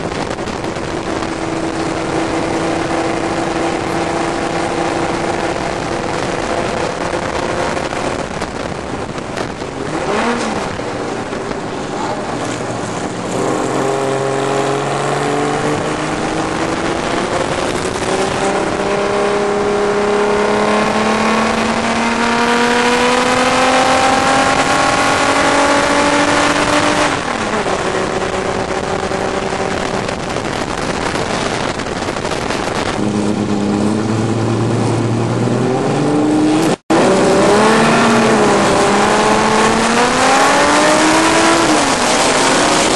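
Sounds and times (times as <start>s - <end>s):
racing car engine: 0.0s - 42.9s
wind rushing: 0.0s - 42.9s.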